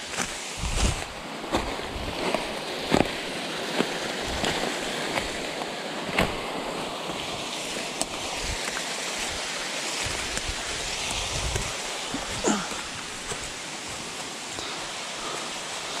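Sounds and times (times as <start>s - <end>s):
footsteps on twigs and leaves: 0.0s - 15.0s
stream rushing: 0.0s - 16.0s.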